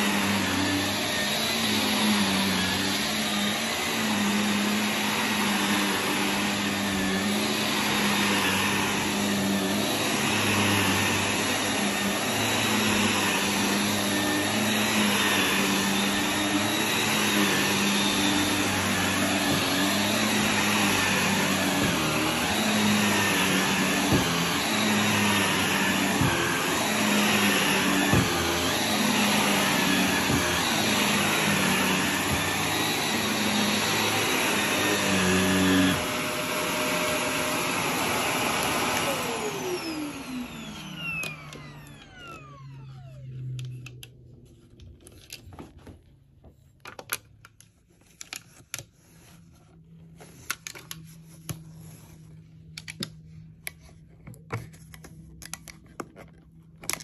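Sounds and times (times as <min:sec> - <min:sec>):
vacuum cleaner running: 0:00.0 - 0:44.7, 0:49.0 - 0:55.2.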